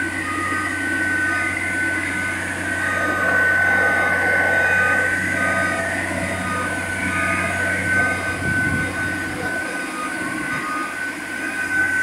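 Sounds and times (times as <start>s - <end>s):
diesel engine and hydraulics running: 0.0s - 12.0s
thin high whine: 0.0s - 12.0s.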